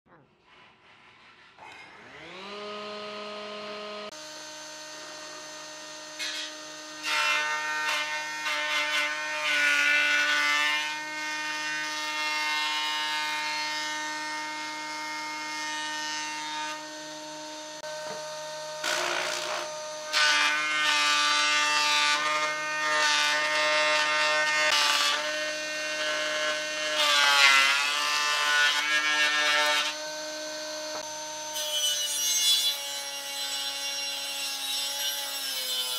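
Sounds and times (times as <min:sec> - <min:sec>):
wood passing cutters: 0:01.6 - 0:35.9
woodworking machine motor hum: 0:01.7 - 0:31.6.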